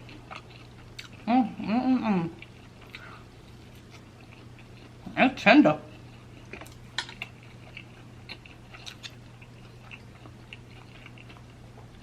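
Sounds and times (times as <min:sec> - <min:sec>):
person chewing: 0:00.0 - 0:05.1, 0:05.9 - 0:12.0
faint low hum: 0:00.0 - 0:12.0.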